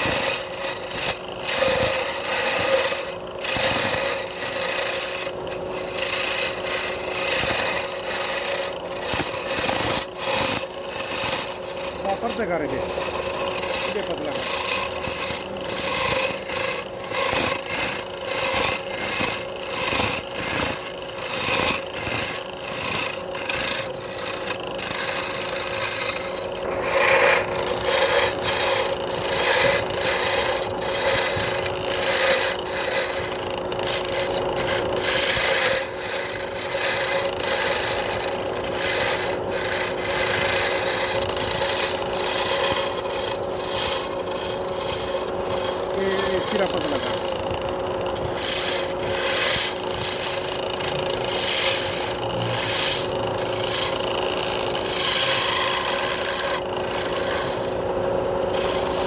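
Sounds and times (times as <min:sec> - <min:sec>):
lathe motor humming: 0:00.0 - 0:59.0
tool scraping spinning wood: 0:00.0 - 0:59.0.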